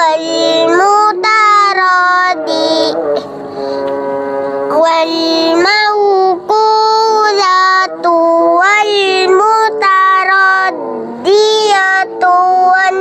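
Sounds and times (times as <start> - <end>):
child chanting recitation: 0.0 - 13.0.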